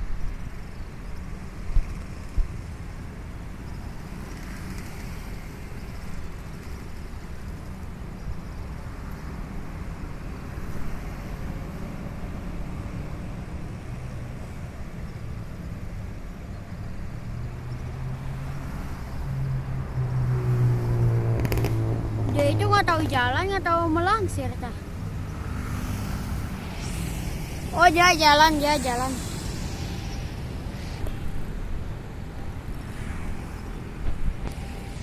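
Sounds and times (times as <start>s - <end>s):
diesel locomotive engine hum: 0.0s - 35.0s
traffic rumble: 0.0s - 35.0s.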